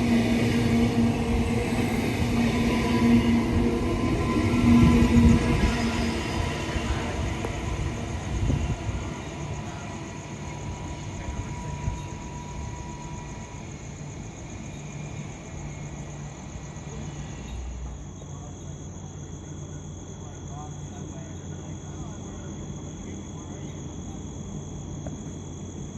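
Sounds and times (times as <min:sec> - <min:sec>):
crickets chirping: 0:00.0 - 0:25.9
train rumbling: 0:00.0 - 0:25.9.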